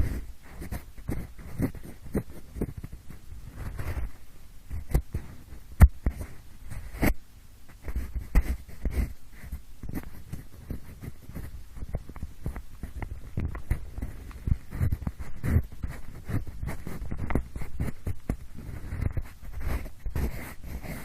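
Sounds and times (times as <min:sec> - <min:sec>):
pencil scratching microphone: 0:00.0 - 0:21.0.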